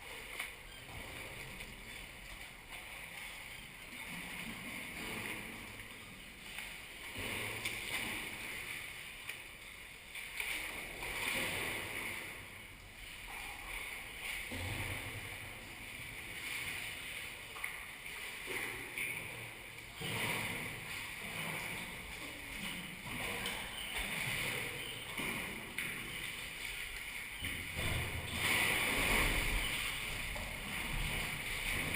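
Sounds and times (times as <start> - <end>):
paddle strokes splashing: 0.0 - 31.9
water washing along hull: 0.0 - 31.9.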